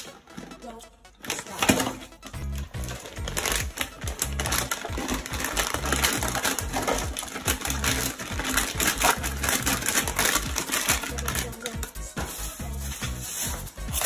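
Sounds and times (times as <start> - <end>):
crisps rattling into toilet bowl: 0.0 - 12.0
background music with low beat: 0.0 - 14.0
crisp packet crinkling: 1.2 - 12.5.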